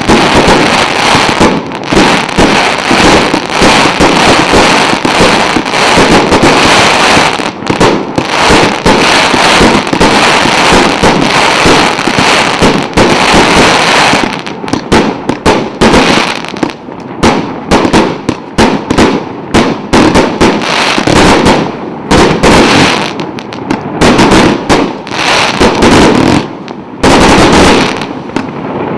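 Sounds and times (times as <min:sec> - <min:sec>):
firework aerial bursts: 0:00.0 - 0:28.9.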